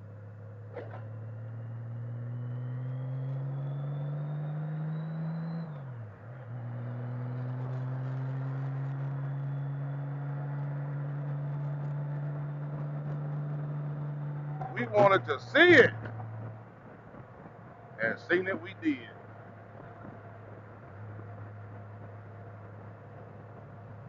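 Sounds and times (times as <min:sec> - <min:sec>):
motorcycle engine accelerating: 0:00.8 - 0:24.0.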